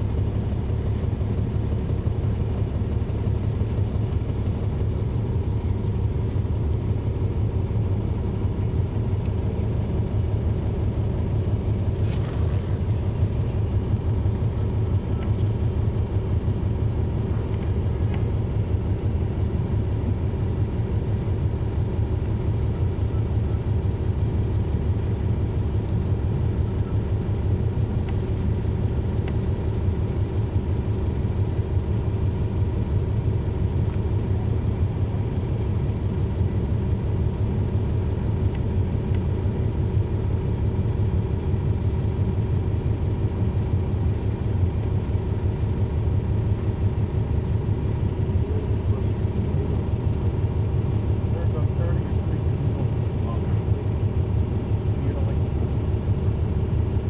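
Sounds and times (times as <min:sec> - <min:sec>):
bus diesel engine rumbling: 0:00.0 - 0:57.0
engine cooling fans: 0:00.0 - 0:57.0.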